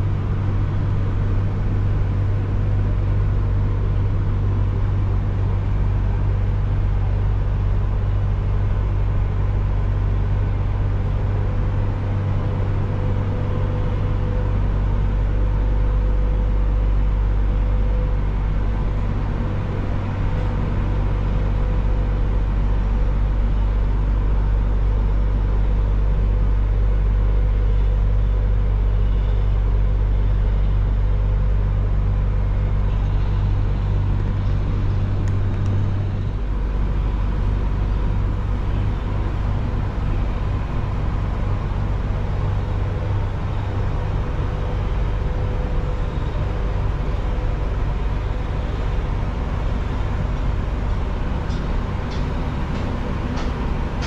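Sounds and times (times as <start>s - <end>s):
vehicle engine rumble: 0.0s - 54.0s.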